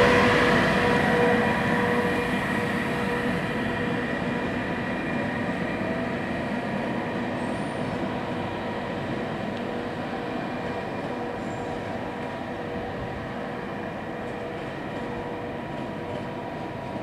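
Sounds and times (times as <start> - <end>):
electric locomotive humming: 0.0 - 17.0
train rolling noise: 0.0 - 17.0.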